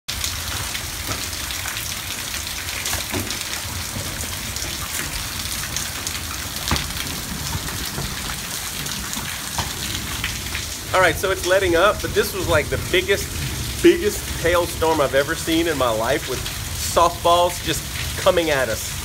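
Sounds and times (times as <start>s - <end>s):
rain hissing: 0.1s - 19.0s.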